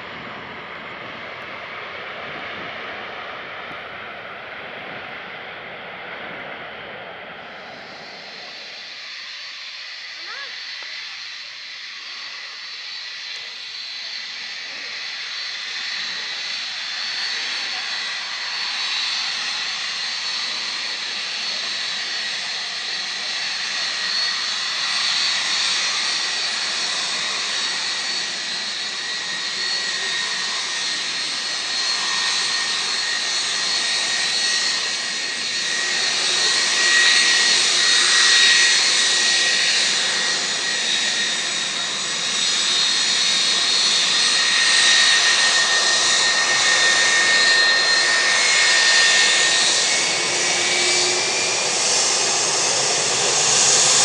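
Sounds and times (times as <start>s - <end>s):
jet engines whining and roaring: 0.0s - 54.0s.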